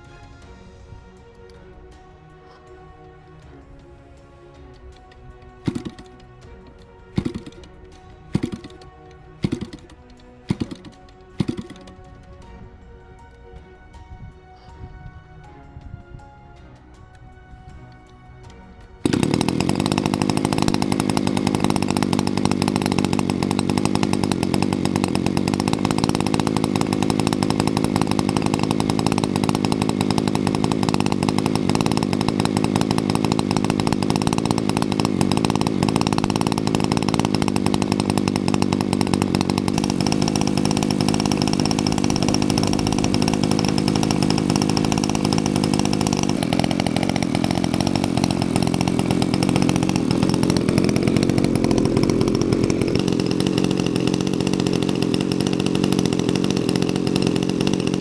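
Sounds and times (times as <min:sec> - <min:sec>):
model plane engine running: 0:04.7 - 0:12.2, 0:19.0 - 0:58.0.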